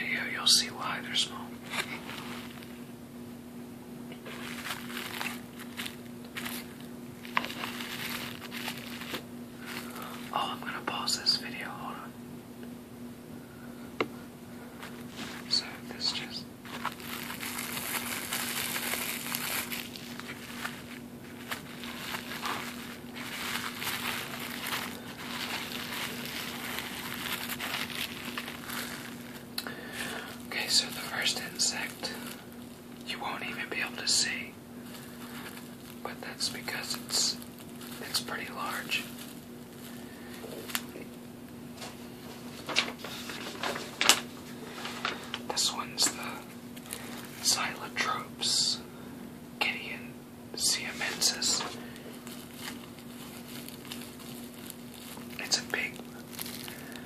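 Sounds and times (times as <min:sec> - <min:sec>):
faint steady hum: 0:00.0 - 0:57.0
bubble wrap crackling: 0:00.6 - 0:03.0, 0:04.1 - 0:12.0, 0:14.6 - 0:48.4, 0:50.6 - 0:57.0.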